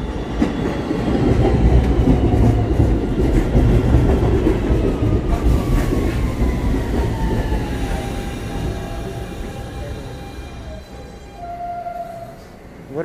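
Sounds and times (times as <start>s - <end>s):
train rumble and wheel clatter: 0.0s - 13.0s.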